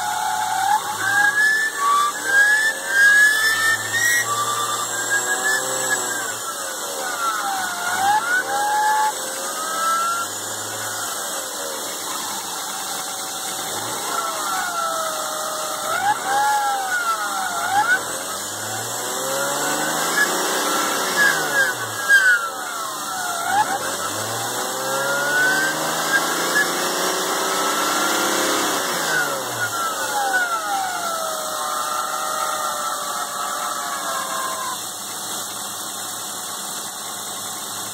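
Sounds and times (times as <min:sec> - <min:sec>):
car engine revving with whine: 0:00.0 - 0:37.9.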